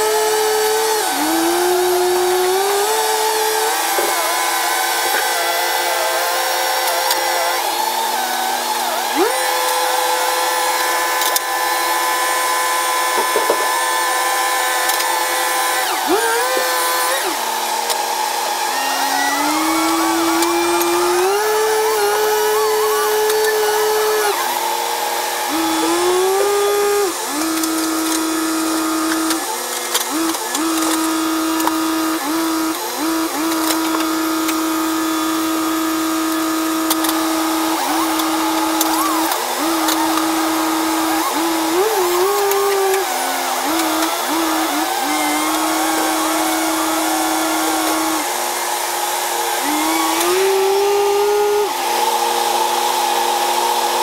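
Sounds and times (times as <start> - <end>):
diesel engine high whine: 0.0 - 54.0.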